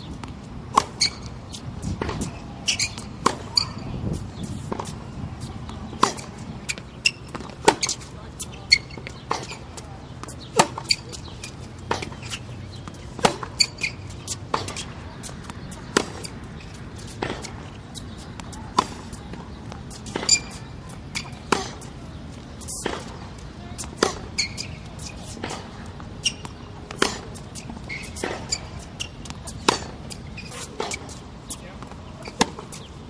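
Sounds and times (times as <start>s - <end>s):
tennis ball bouncing: 0.0s - 33.0s
racket hitting tennis ball: 0.1s - 33.0s.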